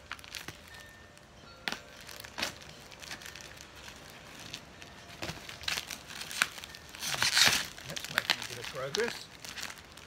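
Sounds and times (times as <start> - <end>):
plastic crinkling: 0.0 - 10.0
cardboard crackling: 1.7 - 10.0.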